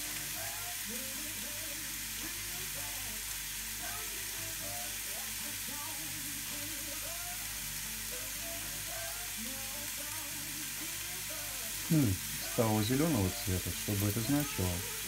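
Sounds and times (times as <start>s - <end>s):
jazz music: 0.0s - 15.0s
steak sizzling on grill: 0.0s - 15.0s.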